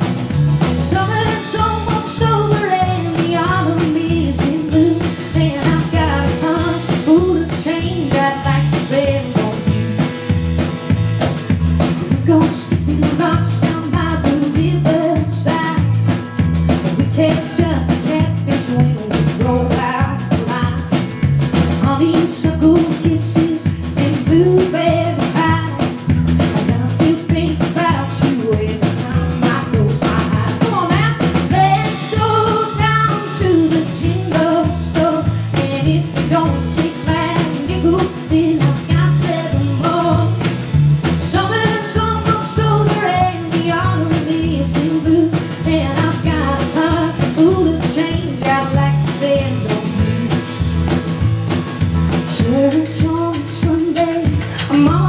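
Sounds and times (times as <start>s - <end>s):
acoustic guitar strumming: 0.0s - 23.5s, 29.2s - 55.0s
drum kit beat: 0.0s - 55.0s
electric guitar: 0.0s - 55.0s
woman singing: 0.6s - 10.0s, 11.9s - 50.6s, 52.2s - 55.0s.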